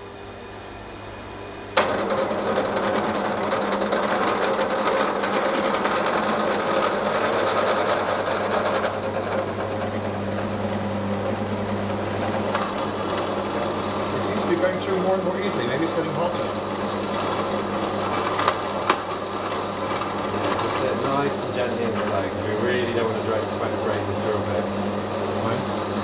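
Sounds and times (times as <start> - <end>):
drill motor humming: 1.8 - 26.0
drill bit cutting steel: 2.0 - 25.7.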